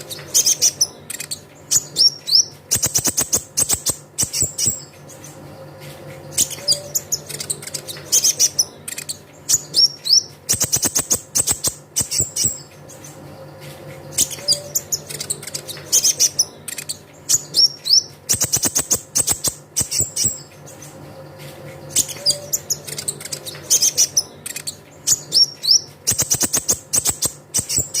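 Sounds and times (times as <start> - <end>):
bird chirping and trilling: 0.0 - 21.1, 21.8 - 28.0.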